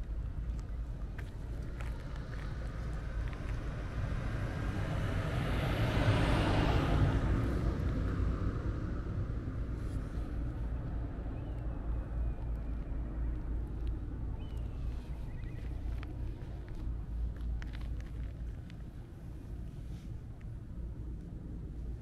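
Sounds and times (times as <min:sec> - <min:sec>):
steady low rumble: 0:00.0 - 0:22.0
vehicle passing by: 0:01.6 - 0:20.2.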